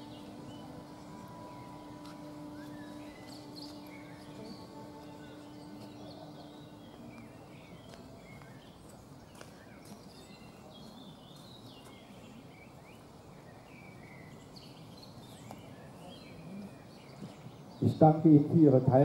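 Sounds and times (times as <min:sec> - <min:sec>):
outdoor background noise: 0:00.0 - 0:19.0
songbirds chirping: 0:00.0 - 0:19.0.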